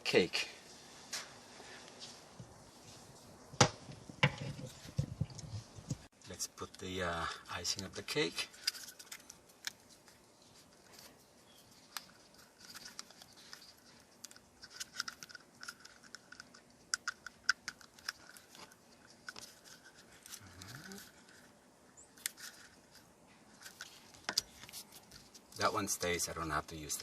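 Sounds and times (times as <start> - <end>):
small parts clicking and scraping: 4.3 - 21.6, 22.2 - 27.0.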